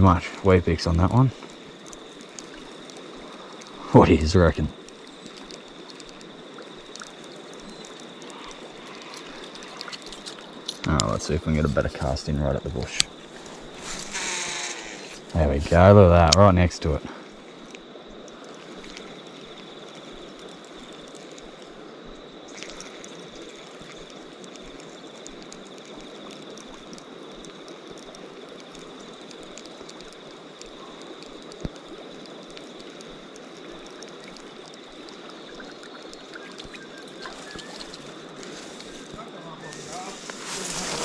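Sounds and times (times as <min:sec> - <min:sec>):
river water running: 0:00.0 - 0:41.0.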